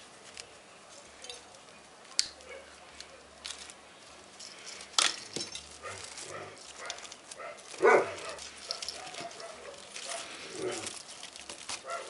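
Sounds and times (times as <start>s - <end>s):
wire scraping and rustling: 0.0s - 12.0s.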